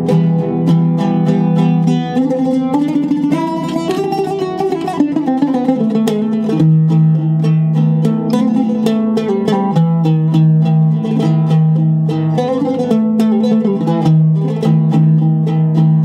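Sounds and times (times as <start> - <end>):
oud plucked with plectrum: 0.0 - 16.0.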